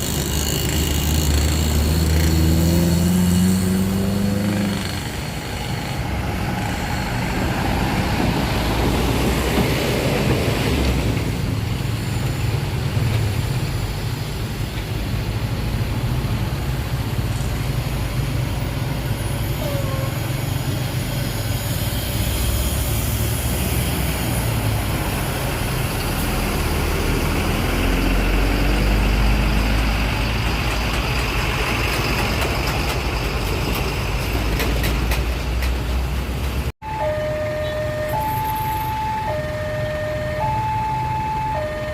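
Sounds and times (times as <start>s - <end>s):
heavy diesel traffic rumbling: 0.0s - 41.9s.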